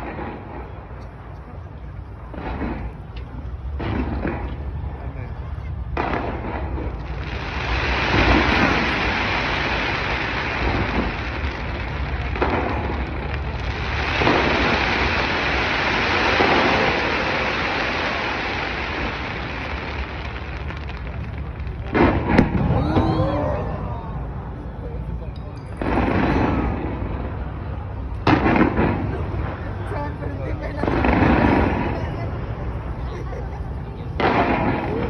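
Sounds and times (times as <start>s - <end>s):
sharp fireworks bangs: 0.0s - 1.4s, 2.2s - 5.1s, 5.8s - 23.2s, 25.7s - 33.1s, 34.0s - 35.0s
fireworks booming: 0.0s - 23.8s, 25.7s - 35.0s
fireworks crackling: 0.0s - 35.0s.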